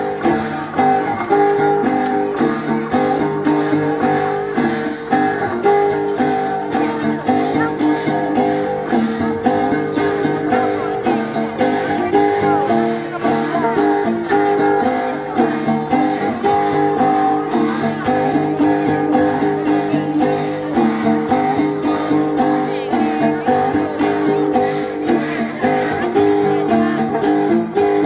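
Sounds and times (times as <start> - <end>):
plucked string melody: 0.0 - 28.0.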